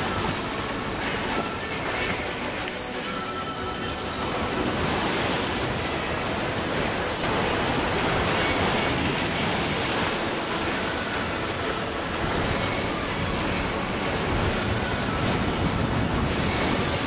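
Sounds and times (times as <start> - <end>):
surf breaking over rocks: 0.0 - 17.0.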